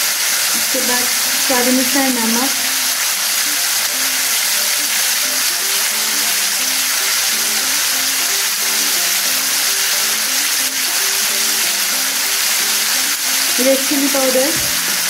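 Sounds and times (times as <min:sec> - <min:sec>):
meat sizzling in hot oil: 0:00.0 - 0:15.0
melodic background music: 0:00.0 - 0:15.0.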